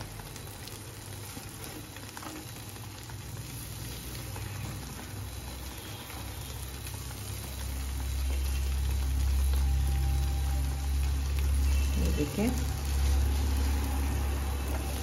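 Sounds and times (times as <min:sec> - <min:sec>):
butter and oil sizzling: 0:00.0 - 0:15.0.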